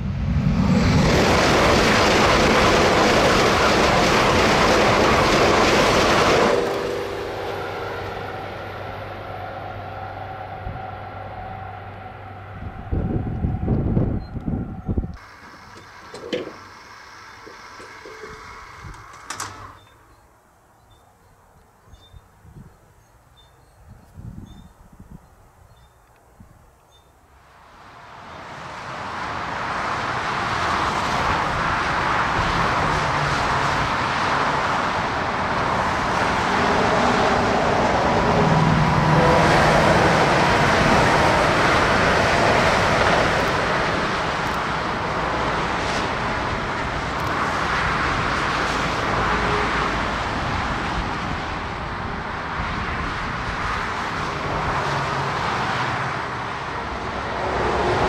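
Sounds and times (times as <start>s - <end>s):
high-speed train passing: 0.0s - 20.8s, 27.3s - 58.0s
motorway traffic noise: 0.0s - 58.0s.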